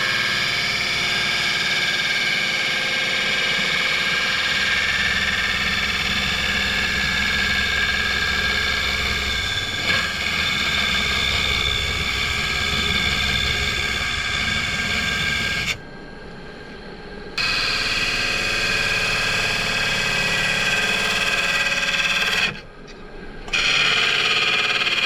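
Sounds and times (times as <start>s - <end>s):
wood lathe cutting: 0.0s - 15.8s, 17.4s - 22.6s, 23.5s - 25.0s.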